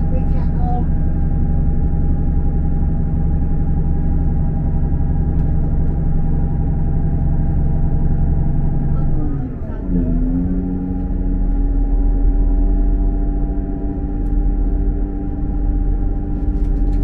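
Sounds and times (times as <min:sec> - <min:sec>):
constant whine: 0:00.0 - 0:17.0
train engine and wheels rumbling: 0:00.0 - 0:17.0.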